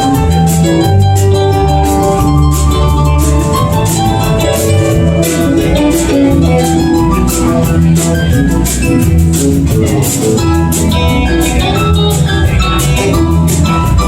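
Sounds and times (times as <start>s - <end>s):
bass line: 0.0s - 14.0s
drum kit: 0.0s - 14.0s
electric guitar: 0.0s - 14.0s.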